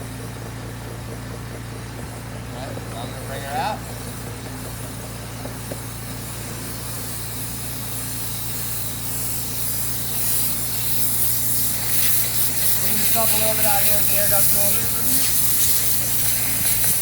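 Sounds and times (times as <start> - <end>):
compressed air tool hissing: 2.1 - 17.0.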